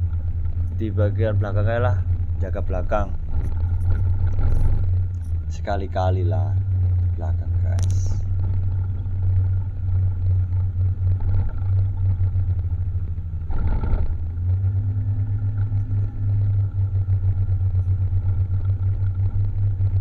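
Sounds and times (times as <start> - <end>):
scooter engine droning: 0.0 - 20.0
wind buffeting: 0.0 - 20.0.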